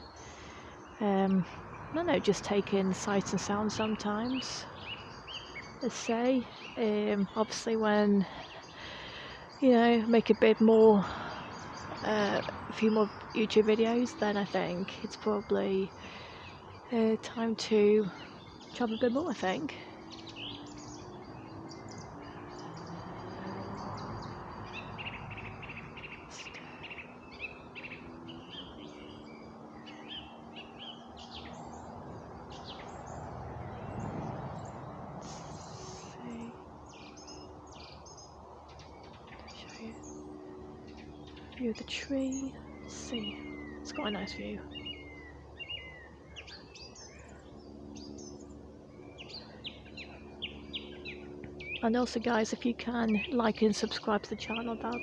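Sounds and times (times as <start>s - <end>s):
low background hum: 0.0s - 55.0s
songbirds chirping and singing: 0.0s - 55.0s.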